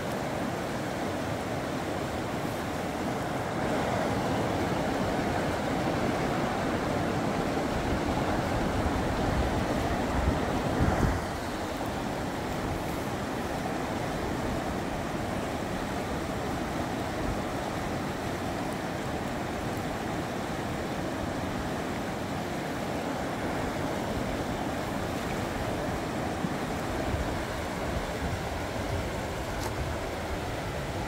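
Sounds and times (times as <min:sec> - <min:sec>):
river rapids rushing over stones: 0:00.0 - 0:31.0.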